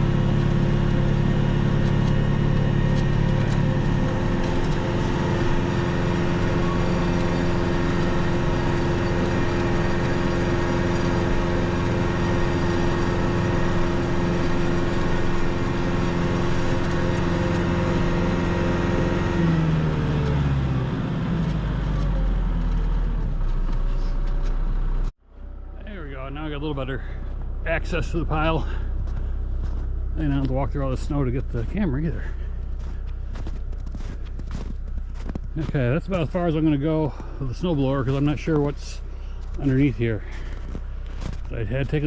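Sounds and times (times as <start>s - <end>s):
snowblower clearing snow: 0.0s - 42.0s
tractor engine running: 0.0s - 42.0s.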